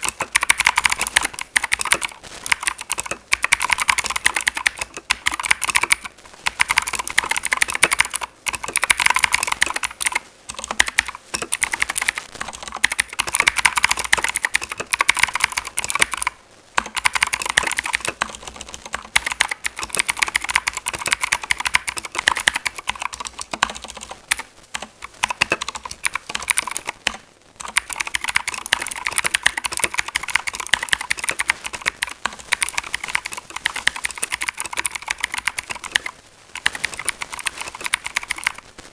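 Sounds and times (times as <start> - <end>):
clicky mechanical keyboard typing: 0.0 - 38.6.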